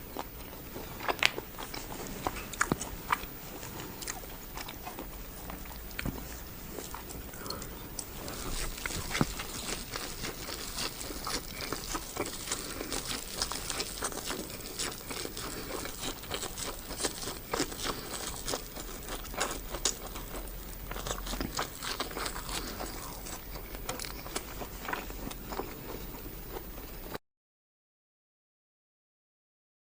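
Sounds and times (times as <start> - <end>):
person chewing food: 0.0 - 27.2.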